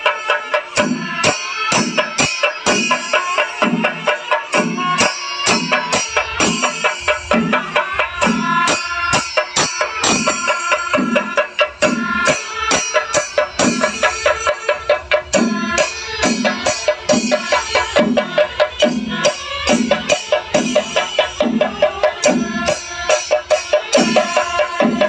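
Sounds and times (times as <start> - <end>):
clashing cymbals: 0.0 - 25.0
drums beaten in fast rhythm: 0.0 - 25.0.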